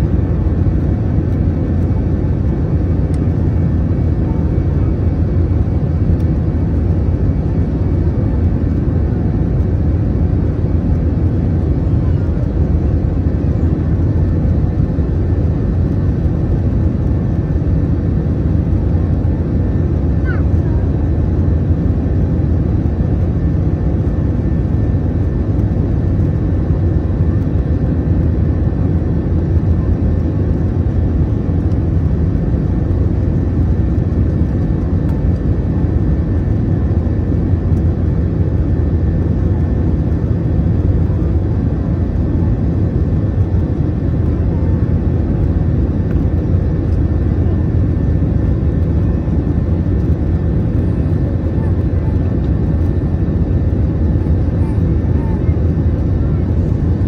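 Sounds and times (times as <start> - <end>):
airliner cabin engine roar: 0.0 - 57.0.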